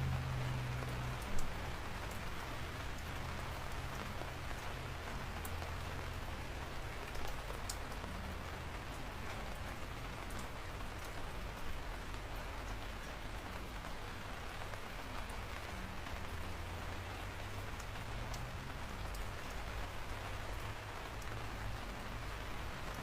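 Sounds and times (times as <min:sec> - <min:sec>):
raindrops ticking: 0:00.0 - 0:23.0
steady rain falling: 0:00.0 - 0:23.0.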